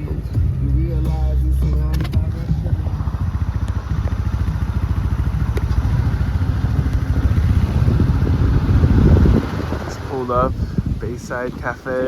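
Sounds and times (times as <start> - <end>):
car engine and road noise in cabin: 0.0 - 12.0.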